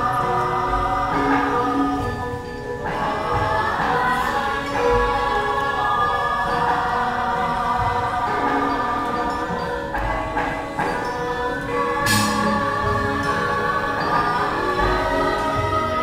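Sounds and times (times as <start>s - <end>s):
chorus singing held notes: 0.0s - 16.0s
ringing bronze metallophones: 0.0s - 16.0s
sharp metallophone strikes: 0.0s - 16.0s.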